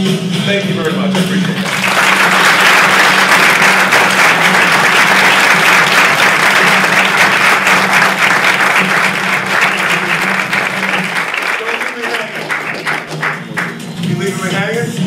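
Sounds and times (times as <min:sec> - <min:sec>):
audience applauding: 0:01.6 - 0:13.8.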